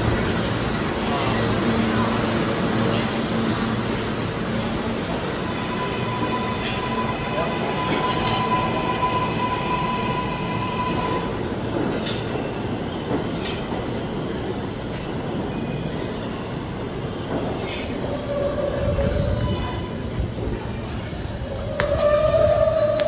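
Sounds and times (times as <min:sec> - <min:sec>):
train rolling slowly: 0:00.0 - 0:23.0.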